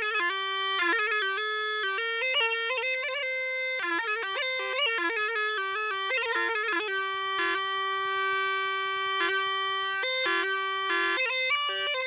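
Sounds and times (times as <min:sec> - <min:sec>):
bagpipe-like reed melody: 0:00.0 - 0:12.0.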